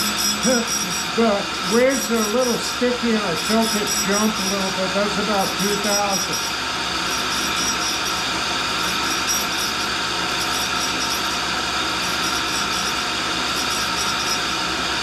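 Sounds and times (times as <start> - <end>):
grinding noise: 0.0 - 15.0
motors whining: 0.0 - 15.0.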